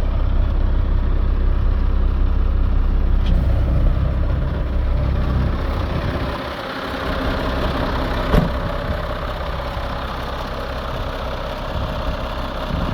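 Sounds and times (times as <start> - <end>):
diesel truck engine idling: 0.0 - 12.9.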